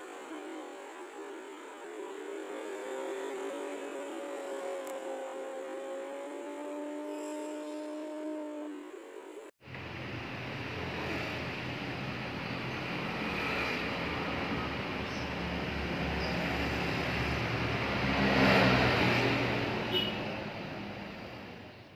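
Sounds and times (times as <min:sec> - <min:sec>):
engine humming: 0:02.9 - 0:21.9.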